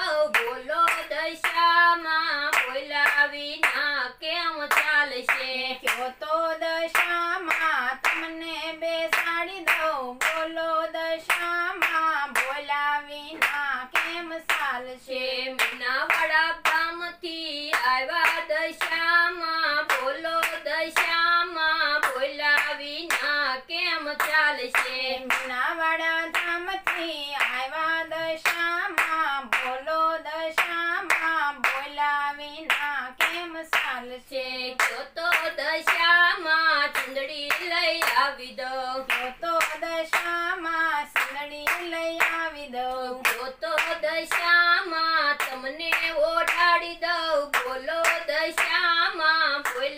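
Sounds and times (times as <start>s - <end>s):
devotional singing: 0.0s - 49.9s
hand claps: 0.1s - 17.0s, 17.6s - 49.9s.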